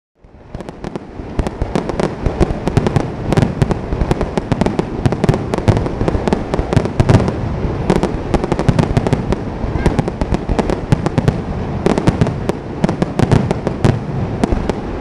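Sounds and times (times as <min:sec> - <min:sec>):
fireworks cracks and bangs: 0:00.2 - 0:15.0.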